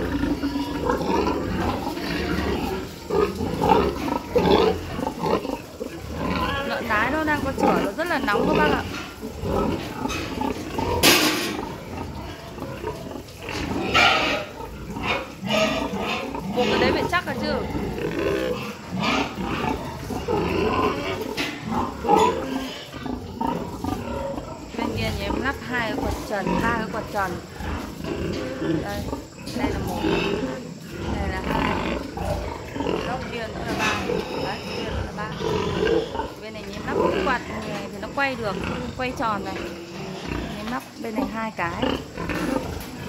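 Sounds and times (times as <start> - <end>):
pigs vocalizing: 0.0 - 43.0.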